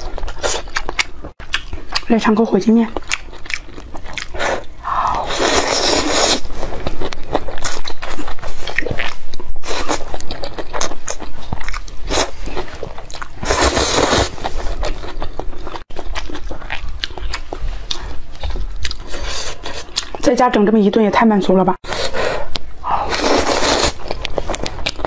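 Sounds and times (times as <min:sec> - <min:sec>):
wet chewing: 0:00.0 - 0:20.6, 0:21.8 - 0:25.0.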